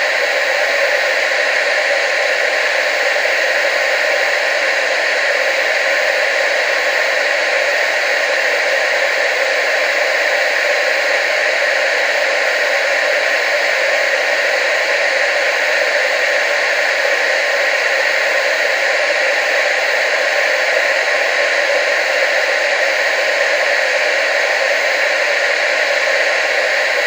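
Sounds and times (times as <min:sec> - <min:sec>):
television static hiss: 0:00.0 - 0:27.0.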